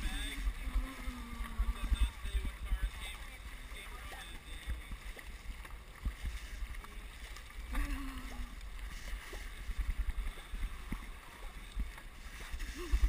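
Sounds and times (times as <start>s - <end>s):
paddle strokes splashing: 0.0s - 13.0s
water rushing past hull: 0.0s - 13.0s
wind buffeting microphone: 0.0s - 13.0s.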